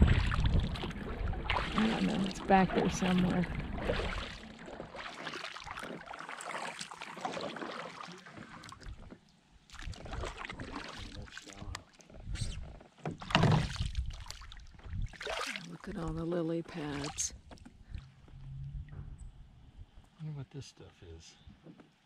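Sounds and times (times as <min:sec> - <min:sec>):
kayak paddle pulling through water: 0:00.0 - 0:18.6
water drips and small splashes: 0:00.0 - 0:19.3.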